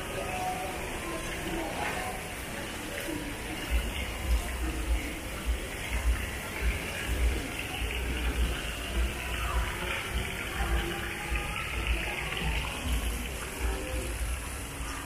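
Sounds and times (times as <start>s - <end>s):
shopping mall ambience: 0.0s - 15.0s.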